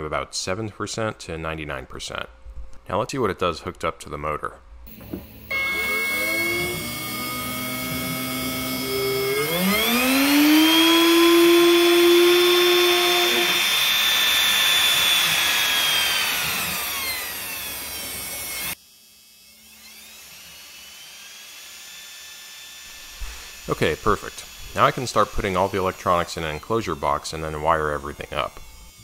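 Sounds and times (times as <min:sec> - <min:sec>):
electric motor whine: 0:04.9 - 0:29.0.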